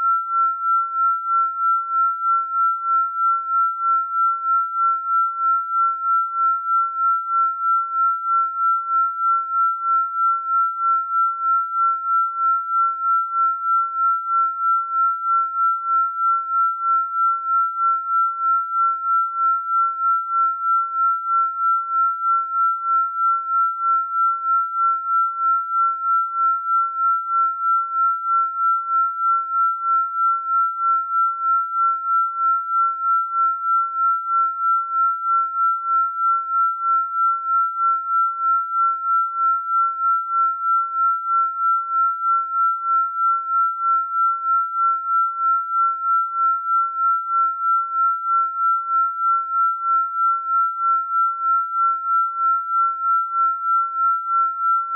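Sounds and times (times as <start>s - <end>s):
pulsing electronic sine tone: 0.0s - 54.9s.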